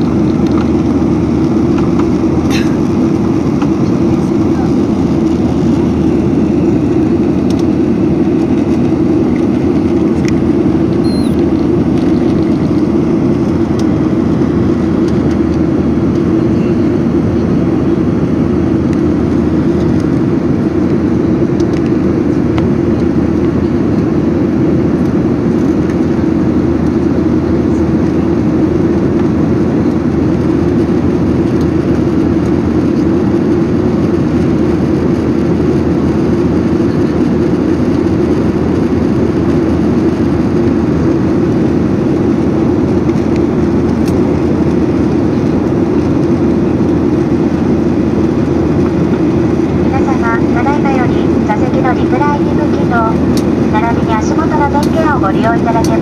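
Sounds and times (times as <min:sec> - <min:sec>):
airliner cabin engine hum: 0:00.0 - 0:56.0.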